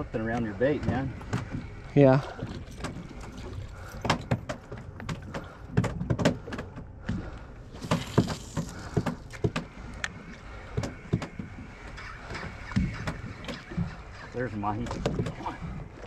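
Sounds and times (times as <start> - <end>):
knocks and clicks on boat: 0.1 - 16.0.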